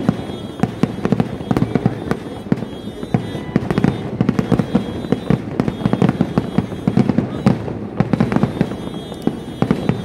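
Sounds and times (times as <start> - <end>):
fireworks bangs: 0.0 - 10.0
rumble of explosions: 0.0 - 10.0.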